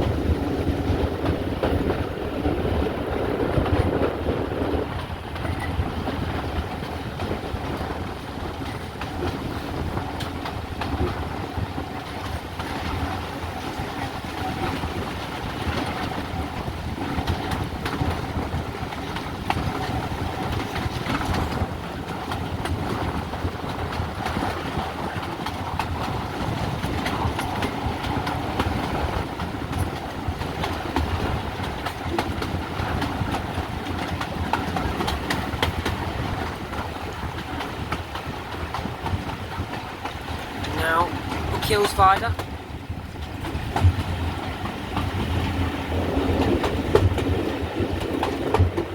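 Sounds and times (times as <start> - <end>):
train rolling rumble: 0.0 - 48.9
wheels clicking over rail joints: 0.0 - 48.9.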